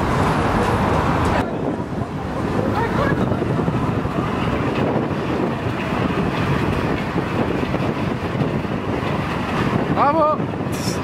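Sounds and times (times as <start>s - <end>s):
street traffic: 0.0s - 11.0s
wind buffeting microphone: 0.0s - 11.0s.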